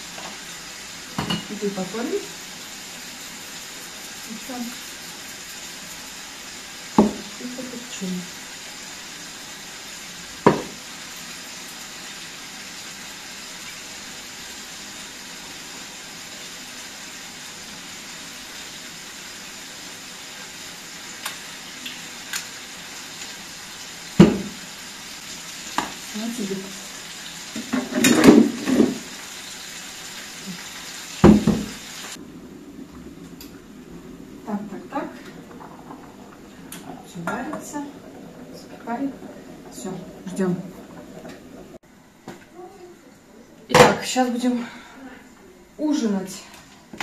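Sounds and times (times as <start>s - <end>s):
food sizzling in frying pan: 0.0s - 44.6s.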